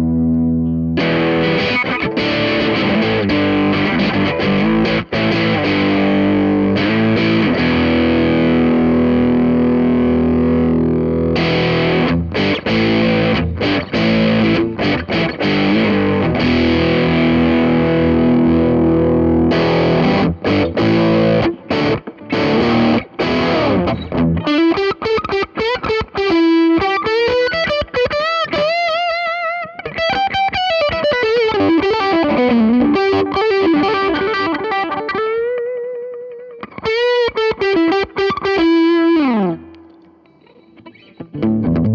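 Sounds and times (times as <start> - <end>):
distorted electric guitar riffs: 0.0 - 41.9.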